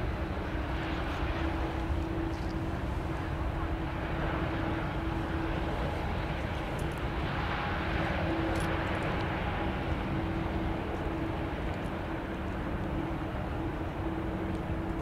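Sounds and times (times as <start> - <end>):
jet engines running: 0.0 - 15.0
steady hum: 0.0 - 15.0.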